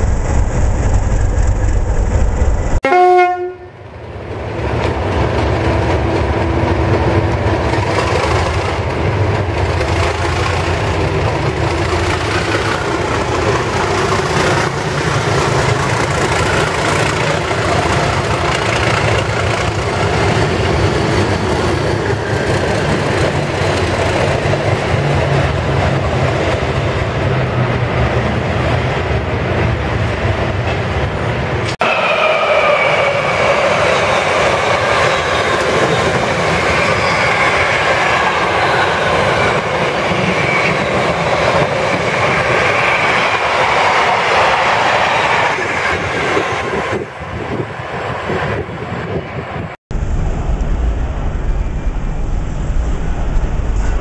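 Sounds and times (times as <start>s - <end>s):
diesel locomotive engine running: 0.0s - 44.8s
train rolling by: 0.0s - 54.0s.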